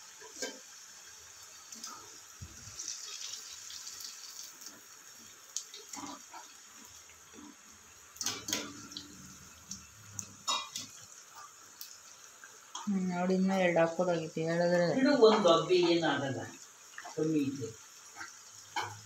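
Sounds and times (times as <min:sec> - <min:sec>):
deep-frying sizzle: 0:00.0 - 0:19.0.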